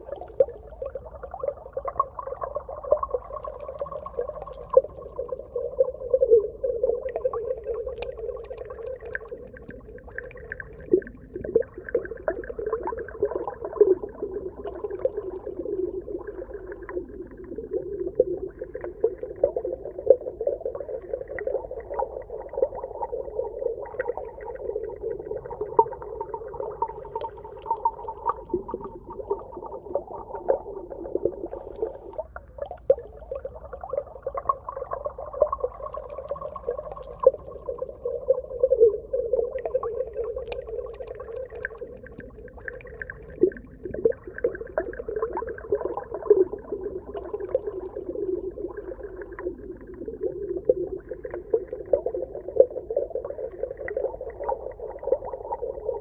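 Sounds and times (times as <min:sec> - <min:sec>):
underwater crackling wash: 0:06.8 - 0:56.0.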